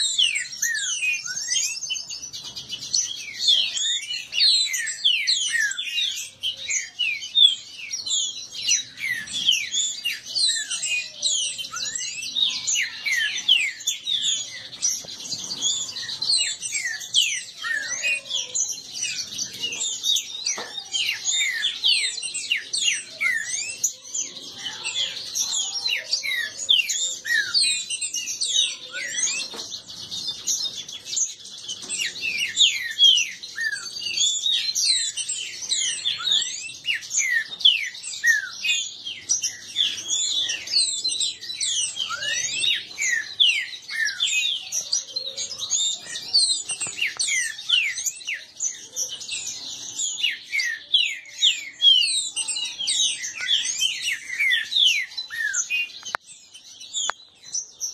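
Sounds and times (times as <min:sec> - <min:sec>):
caged birds singing whistled chirps: 0:00.0 - 0:57.9.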